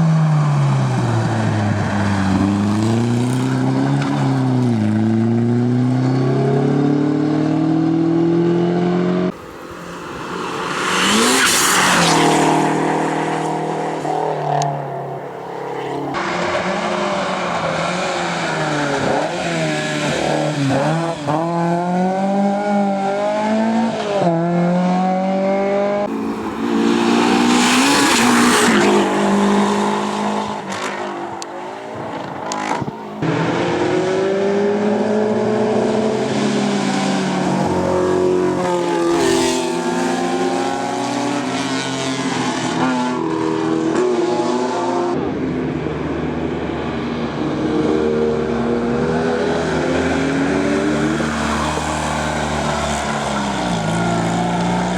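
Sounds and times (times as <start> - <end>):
race car engines revving: 0.0 - 54.9.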